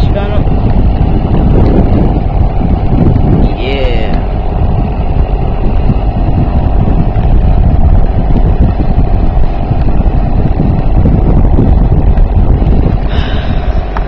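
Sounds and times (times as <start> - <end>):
outboard motor running: 0.0 - 14.0
wind buffeting the microphone: 0.0 - 14.0.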